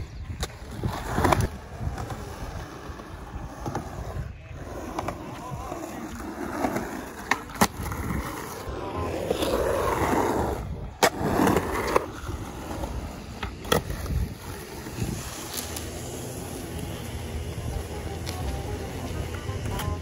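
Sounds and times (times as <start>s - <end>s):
skateboard wheels rolling on concrete: 0.0s - 20.0s
skateboard clacking: 0.2s - 20.0s.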